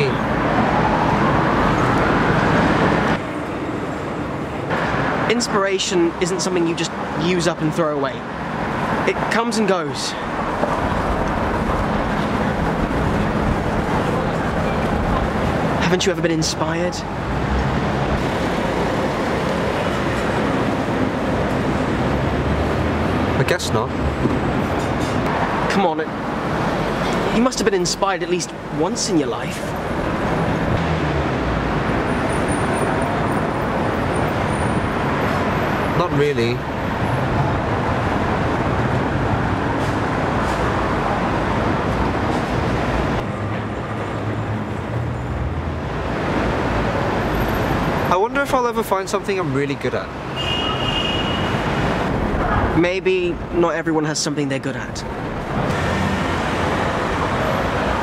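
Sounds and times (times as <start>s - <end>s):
traffic rumble and hiss: 0.0s - 58.0s.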